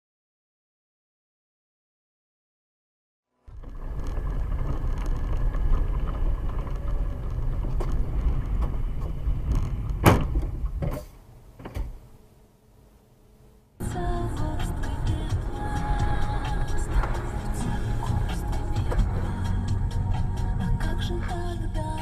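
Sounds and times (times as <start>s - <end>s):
car road and engine rumble: 3.5s - 22.0s.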